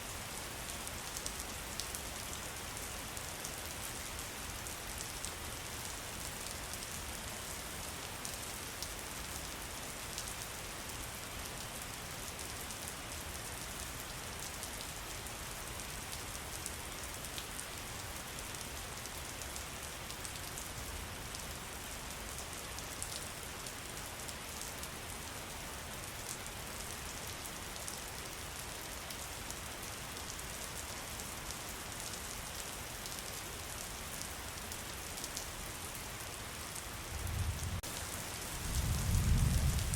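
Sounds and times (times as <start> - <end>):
rain pattering on a surface: 0.1 - 39.9.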